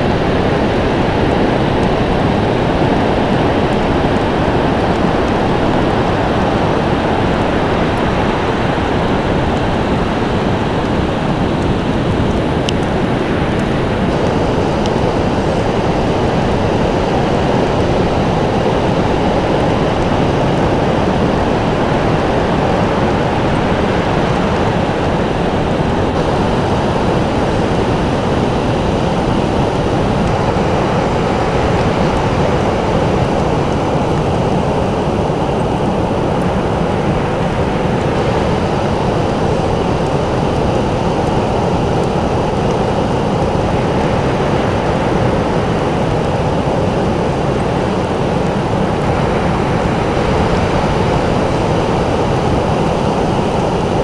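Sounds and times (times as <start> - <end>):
ocean surf roar: 0.0 - 54.0.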